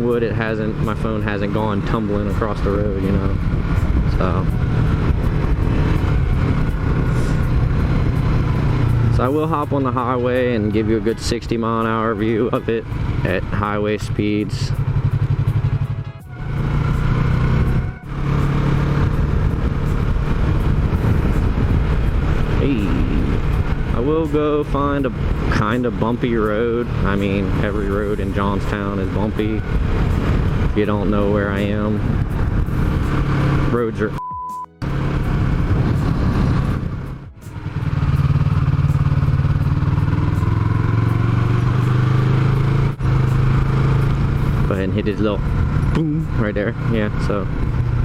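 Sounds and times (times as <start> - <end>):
motorcycle engine running: 0.0 - 34.2, 34.8 - 48.0
wind and road noise: 0.0 - 34.2, 34.8 - 48.0.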